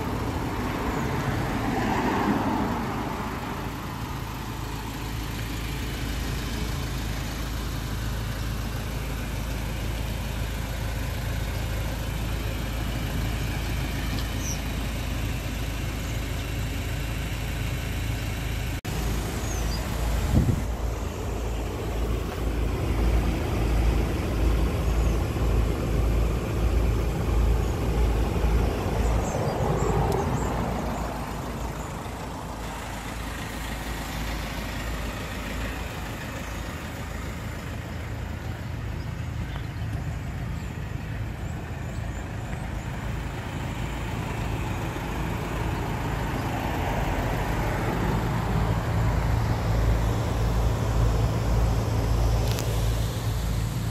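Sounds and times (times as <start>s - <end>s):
vehicle engine idling: 0.0s - 53.9s.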